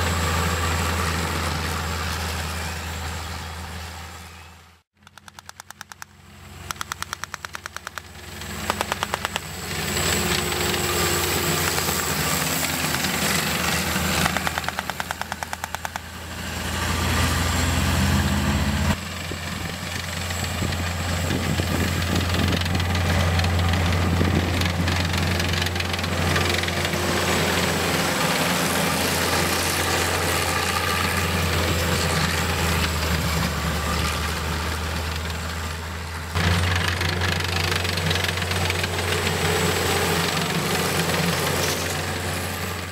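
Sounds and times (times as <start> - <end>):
tracked tractor engines running: 0.0 - 42.9.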